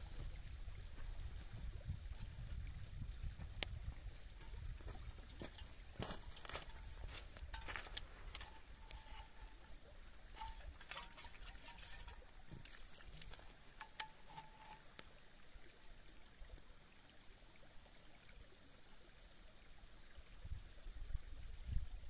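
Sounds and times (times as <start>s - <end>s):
stream trickling over stones: 0.0s - 22.0s.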